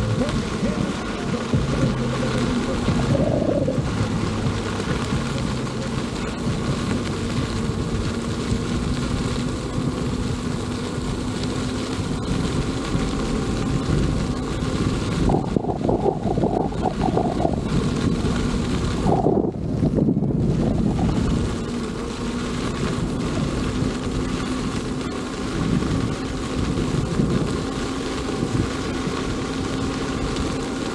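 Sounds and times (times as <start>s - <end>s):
faint steady hum: 0.0s - 30.9s
wind rushing over microphone: 0.0s - 30.9s.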